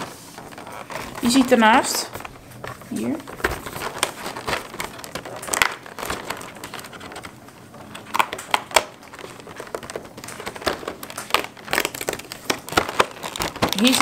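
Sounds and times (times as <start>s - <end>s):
cardboard packaging crinkling: 0.0s - 14.0s
sharp clicks and crackles: 0.4s - 14.0s.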